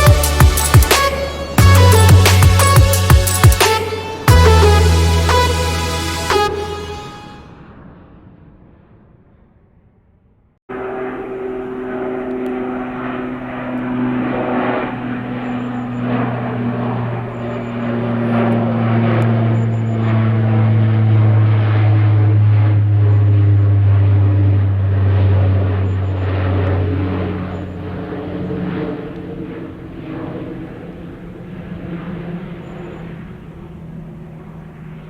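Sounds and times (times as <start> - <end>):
jet airliner passing: 0.0 - 10.0, 10.7 - 35.0.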